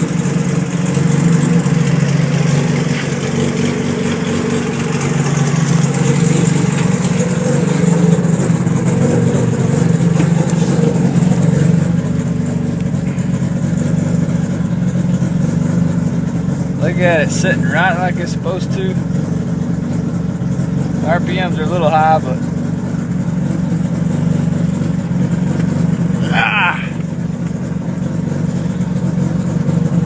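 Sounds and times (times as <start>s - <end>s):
rotary engine idling: 0.0s - 30.0s.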